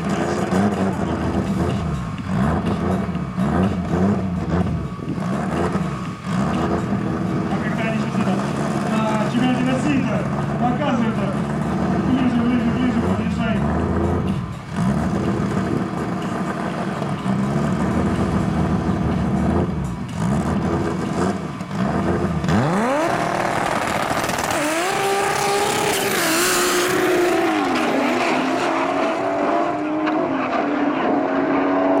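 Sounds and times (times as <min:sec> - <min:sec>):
car engines revving: 0:00.0 - 0:32.0
cars accelerating through upshifts: 0:00.0 - 0:32.0.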